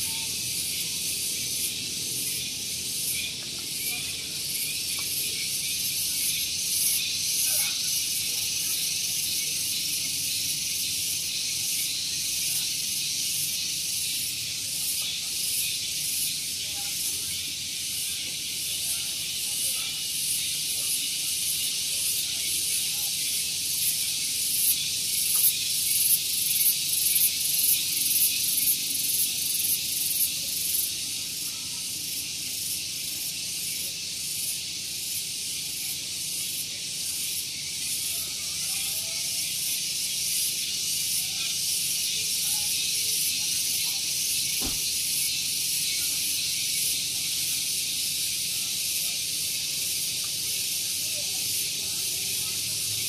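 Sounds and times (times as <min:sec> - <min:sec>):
cicadas buzzing: 0:00.0 - 0:53.0.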